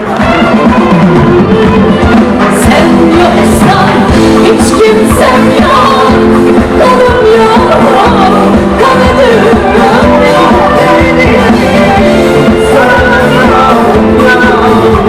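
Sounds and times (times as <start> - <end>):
live pop band with drums: 0.0 - 15.0
person singing: 0.0 - 15.0.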